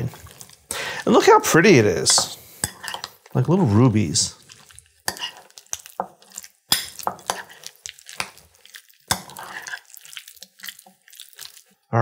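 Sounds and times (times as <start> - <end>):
utensil stirring thick stuffing: 0.0 - 11.9.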